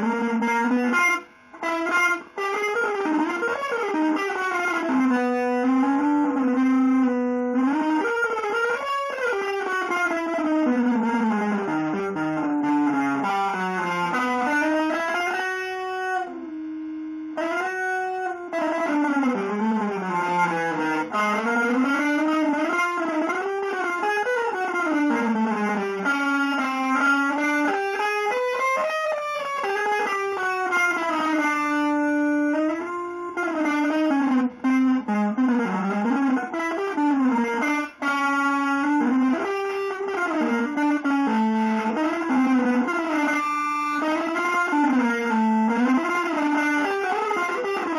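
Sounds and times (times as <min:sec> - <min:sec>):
electric guitar melody with bends: 0:00.0 - 0:47.9.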